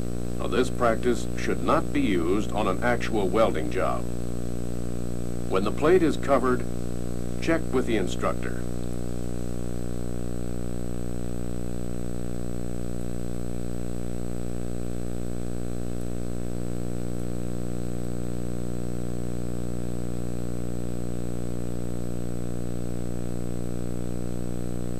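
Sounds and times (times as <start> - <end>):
buzzy electrical hum: 0.0 - 24.9
faint high whine: 0.0 - 24.9.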